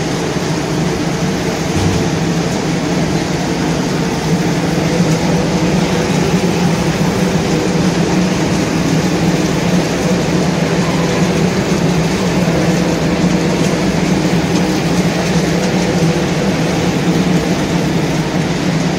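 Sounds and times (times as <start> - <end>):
production machinery humming: 0.0 - 18.9.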